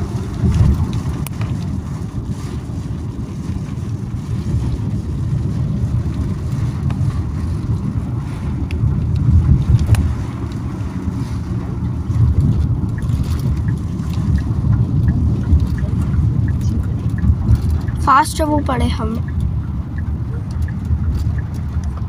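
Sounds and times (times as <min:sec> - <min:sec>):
moving car rumble: 0:00.0 - 0:22.0
wind buffeting microphone: 0:00.0 - 0:22.0.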